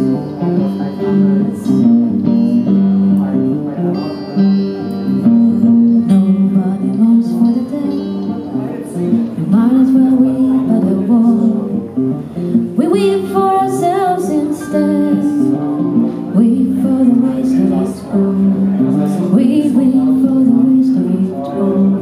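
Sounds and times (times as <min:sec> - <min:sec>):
person singing: 0:00.0 - 0:04.1, 0:04.9 - 0:22.0
guitar music over loudspeakers: 0:00.0 - 0:22.0.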